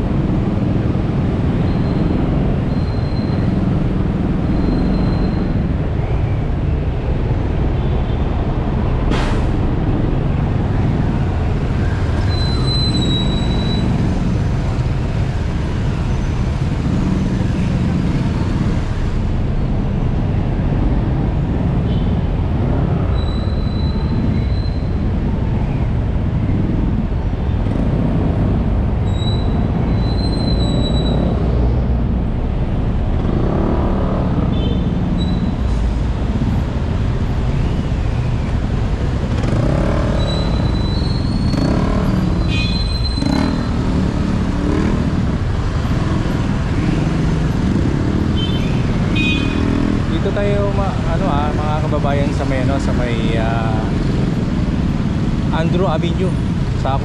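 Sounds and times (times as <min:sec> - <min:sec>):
motorcycle engine and road rumble: 0:00.0 - 0:57.0
surrounding traffic: 0:00.0 - 0:57.0.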